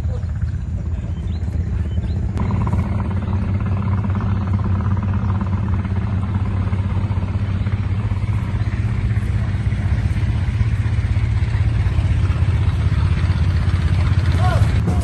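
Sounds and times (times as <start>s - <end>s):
engine chugging: 0.0s - 15.0s.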